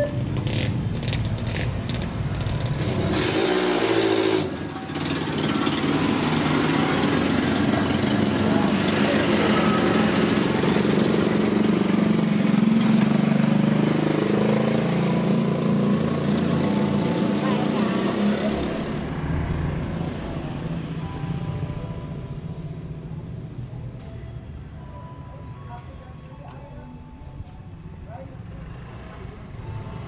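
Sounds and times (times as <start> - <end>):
vehicle engines passing: 0.0 - 26.3, 27.1 - 30.0.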